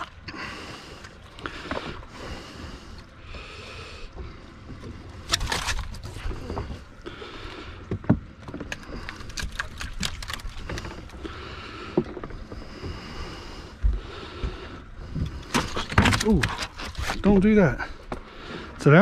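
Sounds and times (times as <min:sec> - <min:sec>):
water lapping against boat: 0:00.0 - 0:19.0.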